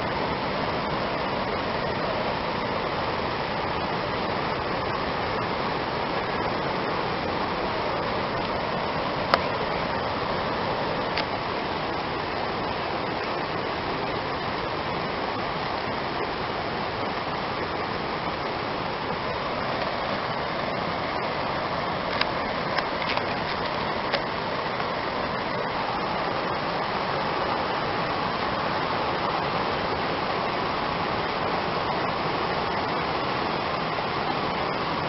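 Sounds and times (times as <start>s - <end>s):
water rushing over reef: 0.0s - 35.0s.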